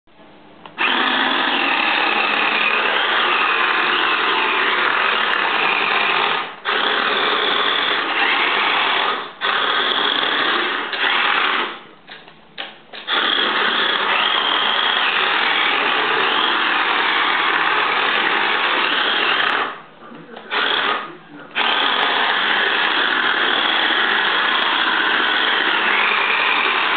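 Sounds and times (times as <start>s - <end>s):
toy car electric motor whining: 0.8s - 11.8s, 13.0s - 19.8s, 20.5s - 26.9s.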